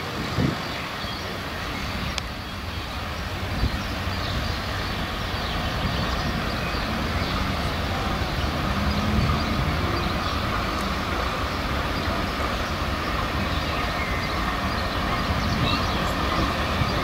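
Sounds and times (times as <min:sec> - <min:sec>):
diesel locomotive rumble: 0:00.0 - 0:17.0.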